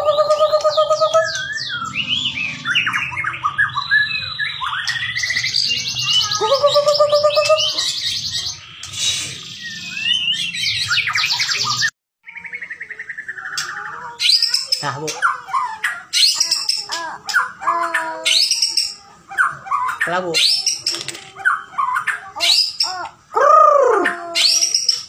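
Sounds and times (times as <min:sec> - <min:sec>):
songbird singing trills and whistles: 0:00.0 - 0:25.0.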